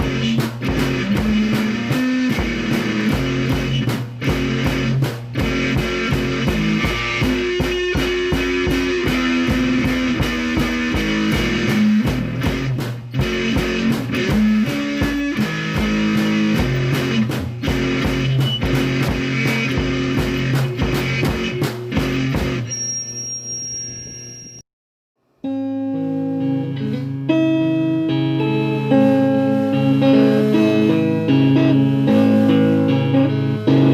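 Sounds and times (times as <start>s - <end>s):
guitar music with steady beat: 0.0s - 23.8s, 25.4s - 33.9s.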